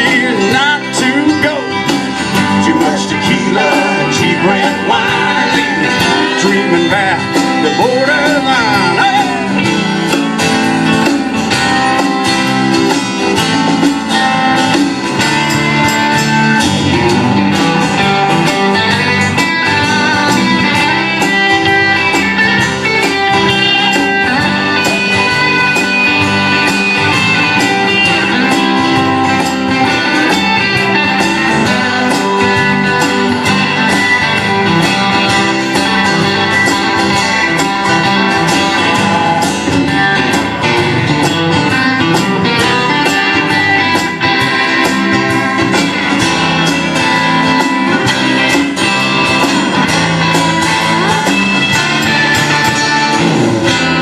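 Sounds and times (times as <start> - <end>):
country band playing: 0.0 - 54.0
lead guitar: 0.0 - 54.0.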